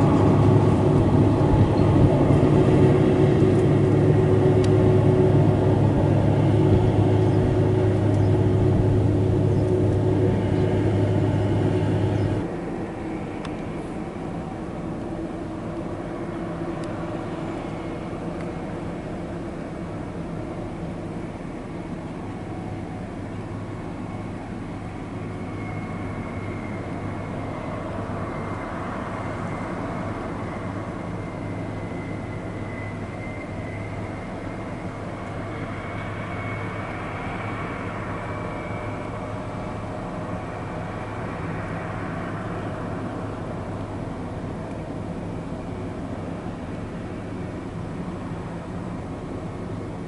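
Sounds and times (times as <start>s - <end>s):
faint high whine: 0.0s - 50.0s
truck diesel engine droning: 0.0s - 50.0s.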